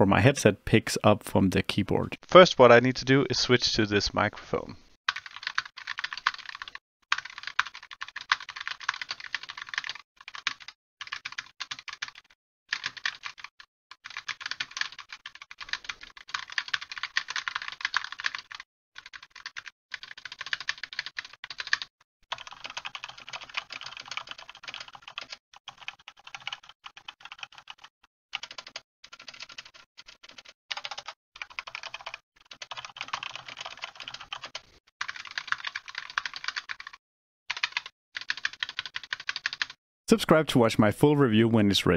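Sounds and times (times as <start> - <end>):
fast typing on mechanical keyboard: 5.1 - 39.8.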